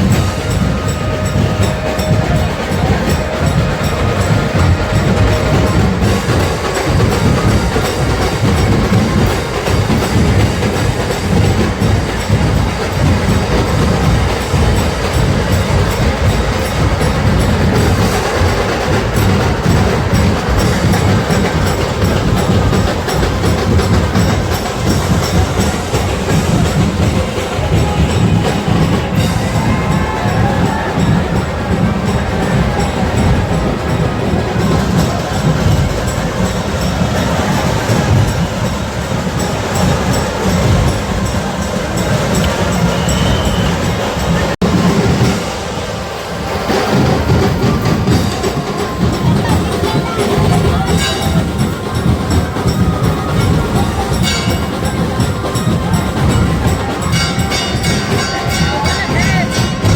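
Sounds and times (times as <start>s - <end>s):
fast rhythmic band drumming: 0.0s - 59.9s.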